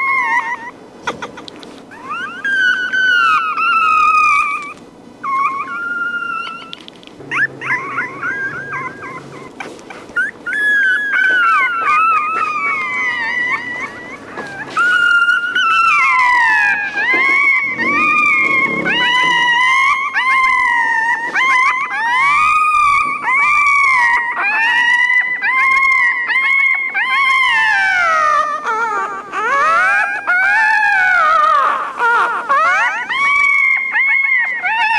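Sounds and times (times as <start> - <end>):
puppy crying: 0.0 - 34.9.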